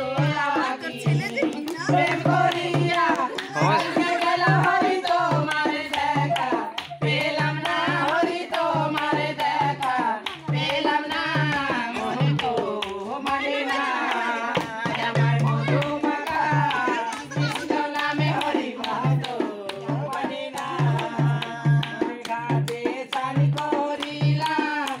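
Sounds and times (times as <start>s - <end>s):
folk singing: 0.0s - 25.0s
hand drum beating: 0.0s - 25.0s
hand claps: 1.2s - 25.0s.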